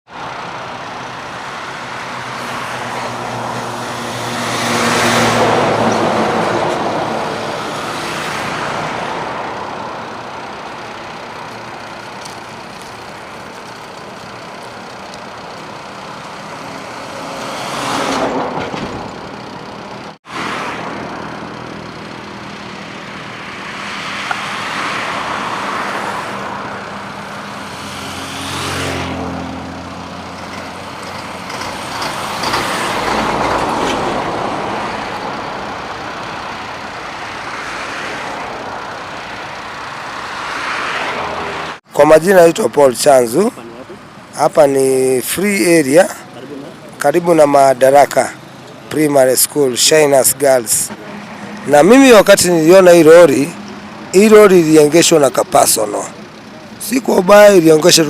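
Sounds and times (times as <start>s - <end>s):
vehicles passing: 0.1s - 58.0s.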